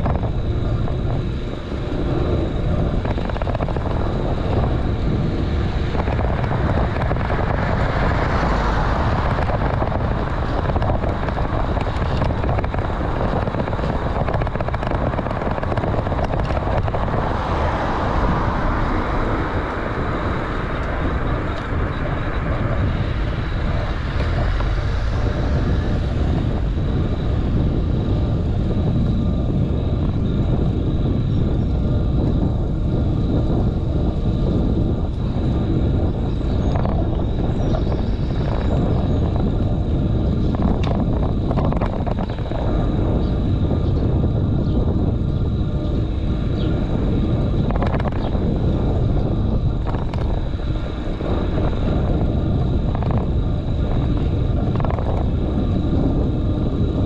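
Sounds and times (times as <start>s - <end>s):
road rumble: 0.0s - 57.0s
wind buffeting microphone: 0.0s - 57.0s.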